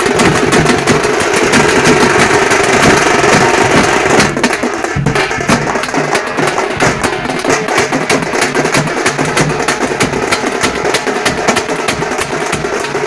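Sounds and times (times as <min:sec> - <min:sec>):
frame drums beating: 0:00.0 - 0:13.0.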